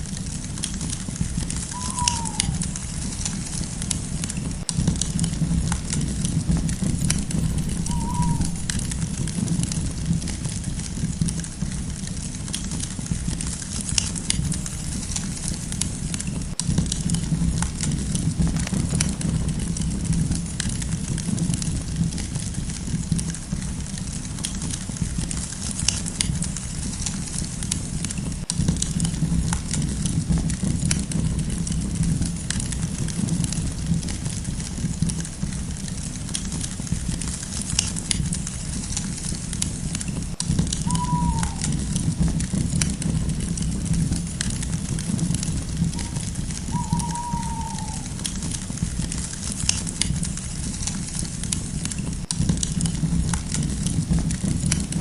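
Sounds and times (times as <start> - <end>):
campfire crackling and popping: 0.0 - 55.0
low rumble of burning fire: 0.0 - 55.0.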